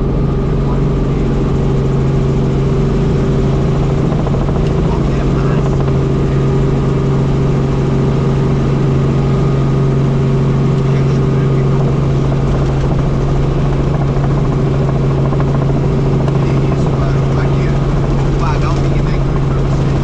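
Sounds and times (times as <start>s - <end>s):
helicopter engine and rotors droning: 0.0s - 20.0s.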